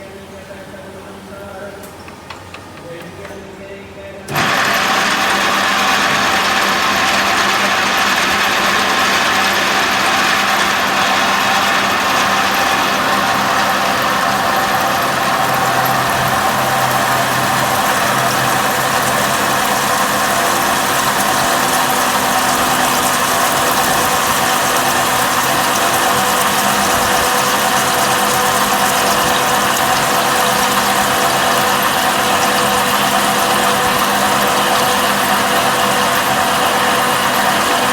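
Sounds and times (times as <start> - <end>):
drilling machine running: 4.3 - 37.9.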